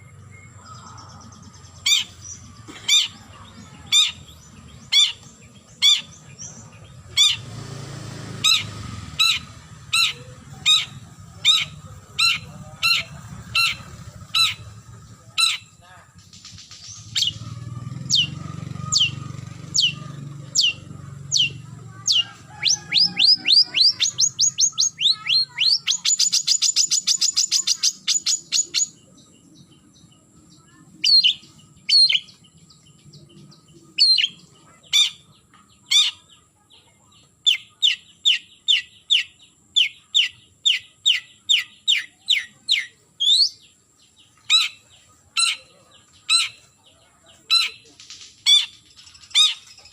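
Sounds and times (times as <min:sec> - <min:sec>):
shrike calling: 0:00.0 - 0:49.9.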